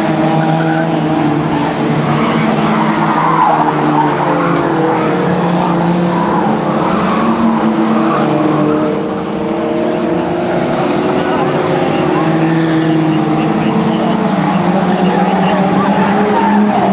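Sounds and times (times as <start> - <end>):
race car engines running hard: 0.0 - 16.9
tyres skidding on dirt: 0.0 - 16.9.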